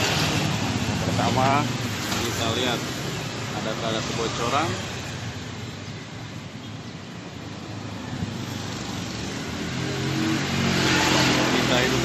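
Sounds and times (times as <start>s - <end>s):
passing vehicles: 0.0s - 12.0s.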